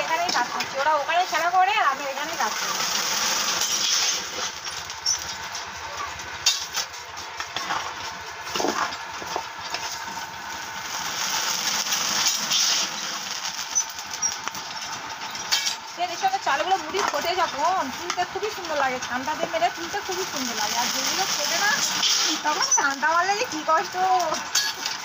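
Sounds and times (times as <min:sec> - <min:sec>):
rice puffing with hiss and crackles: 0:00.0 - 0:25.0.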